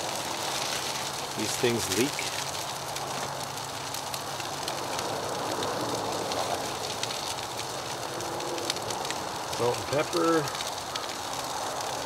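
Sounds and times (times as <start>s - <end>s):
food sizzling and crackling: 0.0s - 12.0s.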